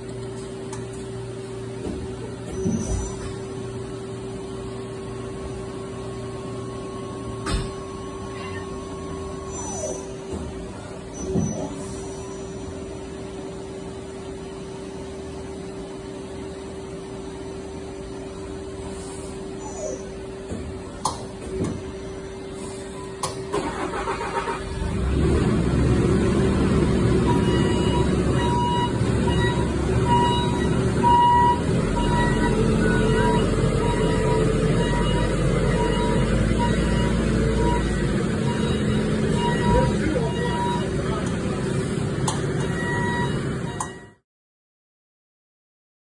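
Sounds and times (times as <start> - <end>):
mechanical hum: 0.0 - 44.2.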